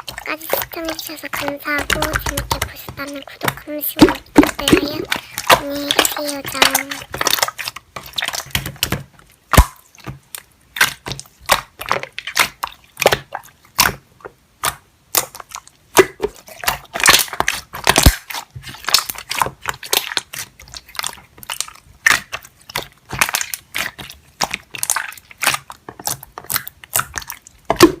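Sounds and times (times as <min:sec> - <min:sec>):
slime crackling and popping: 0:00.0 - 0:14.0, 0:14.6 - 0:28.0.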